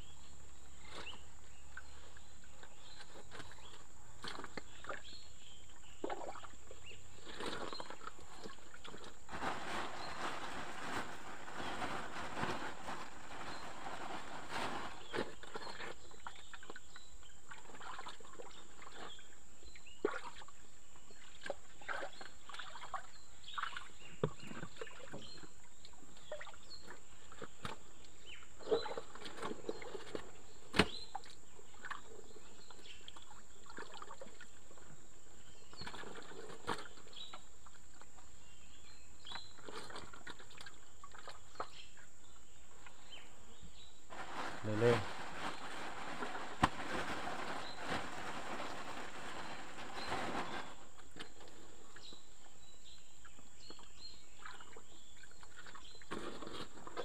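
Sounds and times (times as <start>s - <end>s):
water sloshing and splashing: 0.8s - 28.0s, 28.6s - 38.4s, 39.2s - 42.1s, 44.1s - 57.0s.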